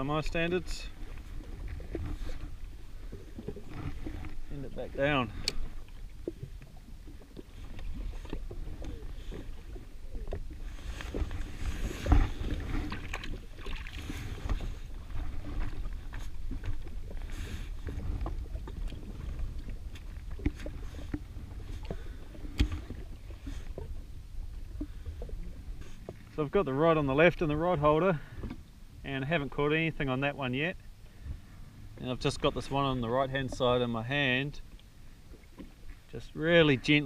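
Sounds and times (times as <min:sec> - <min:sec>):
water washing against hull: 0:00.0 - 0:37.0.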